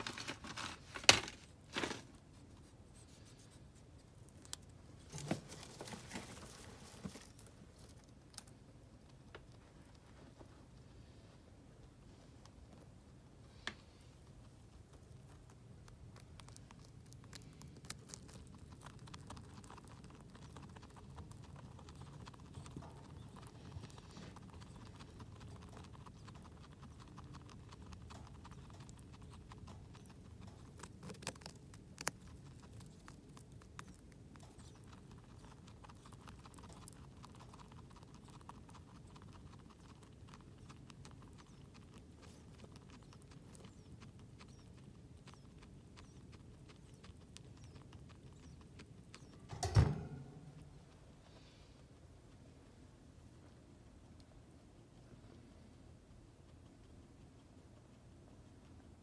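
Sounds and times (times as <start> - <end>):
guinea pig chewing food: 0.0 - 59.0.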